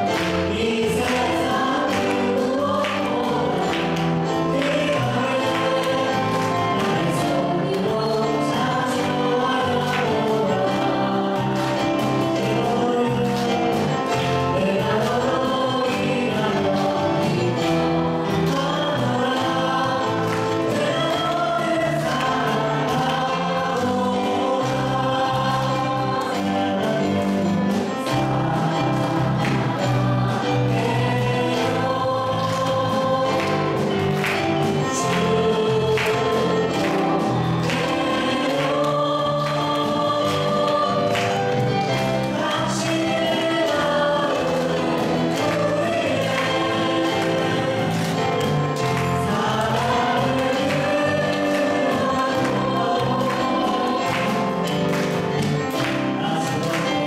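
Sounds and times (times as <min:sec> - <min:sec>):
live band with drums and keyboard: 0:00.0 - 0:57.0
people singing worship song: 0:00.0 - 0:57.0.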